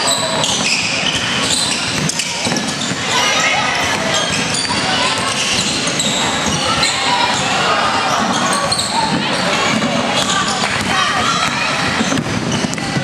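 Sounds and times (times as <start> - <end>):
basketball bouncing on wooden court: 0.4 - 3.2, 3.8 - 7.4, 8.1 - 13.0
people calling out: 1.5 - 12.1.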